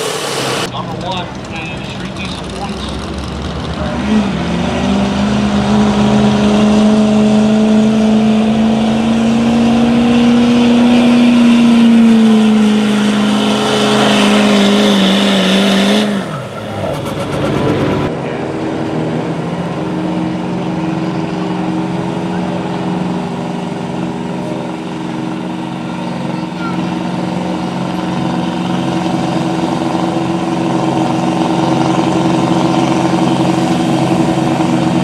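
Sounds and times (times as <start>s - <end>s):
another pickup engine: 0.0s - 35.0s
pickup engine at high revs: 0.0s - 35.0s.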